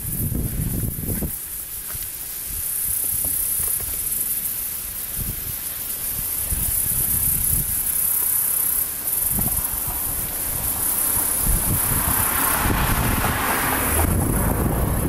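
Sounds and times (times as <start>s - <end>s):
insects hissing: 0.0s - 15.0s
wind rumbling on microphone: 0.0s - 15.0s.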